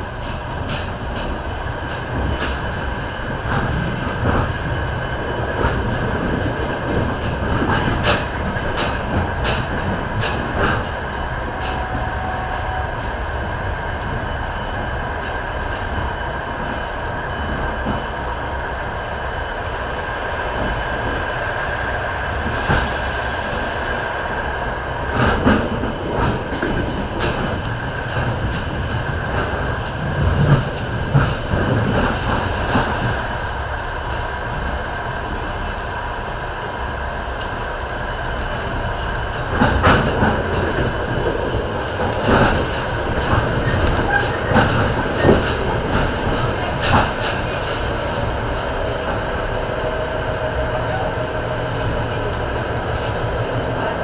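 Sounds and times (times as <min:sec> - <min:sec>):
train passing alongside: 0:00.0 - 0:54.0
train rumble: 0:00.0 - 0:54.0
wheels clicking on rails: 0:00.0 - 0:54.0.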